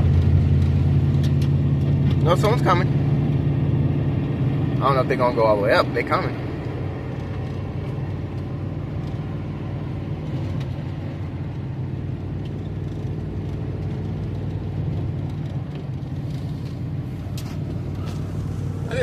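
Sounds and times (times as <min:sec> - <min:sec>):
engine and road noise drone: 0:00.0 - 0:19.0.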